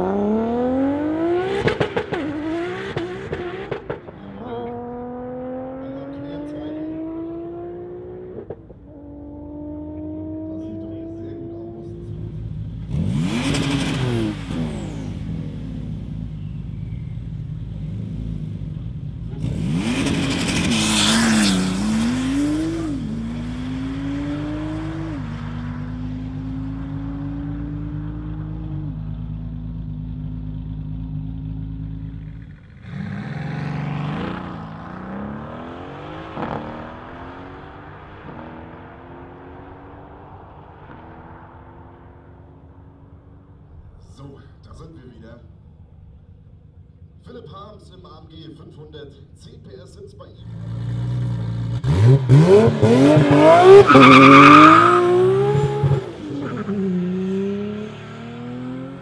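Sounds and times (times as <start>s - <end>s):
cars accelerating hard: 0.0s - 30.0s, 31.4s - 42.8s, 50.4s - 59.0s.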